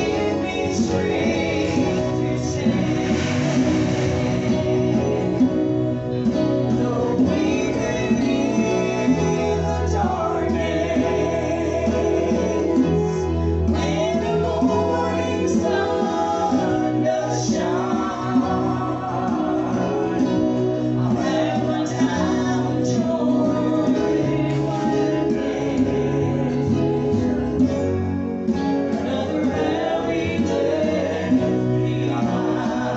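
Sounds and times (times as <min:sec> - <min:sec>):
bass line: 0:00.0 - 0:32.9
gospel group singing: 0:00.0 - 0:32.9
guitar accompaniment: 0:00.0 - 0:32.9.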